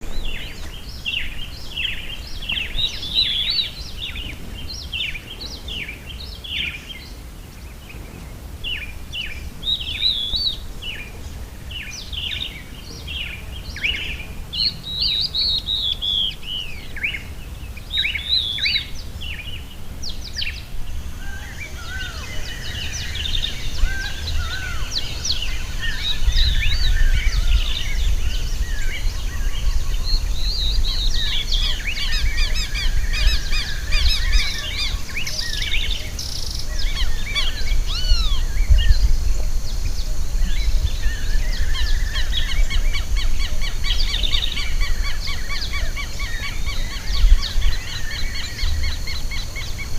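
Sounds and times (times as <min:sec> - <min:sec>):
steady high hiss: 0:00.0 - 0:49.9
wild birds singing: 0:00.0 - 0:49.9
wind rumble on microphone: 0:00.0 - 0:49.9.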